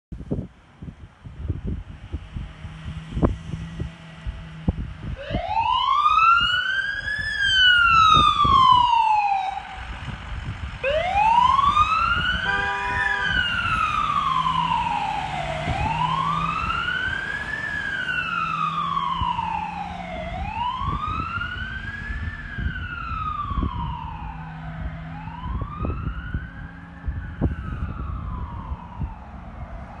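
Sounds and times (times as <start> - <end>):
wind buffeting microphone: 0.1 - 30.0
fire truck siren wailing: 1.6 - 30.0.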